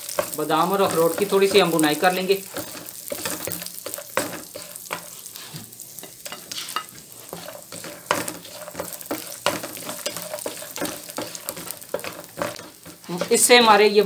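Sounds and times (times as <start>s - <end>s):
nuts sizzling in a frying pan: 0.0s - 14.0s
wooden spatula scraping pan: 0.0s - 14.0s.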